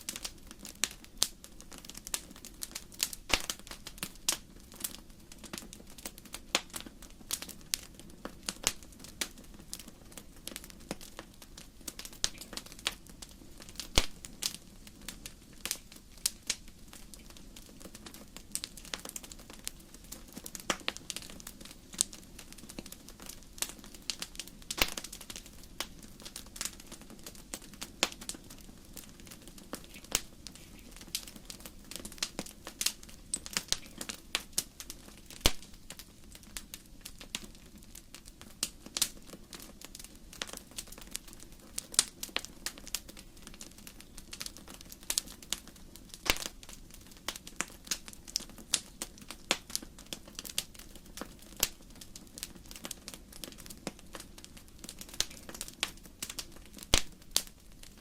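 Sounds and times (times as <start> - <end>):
firewood crackling in a fireplace: 0.0 - 58.0.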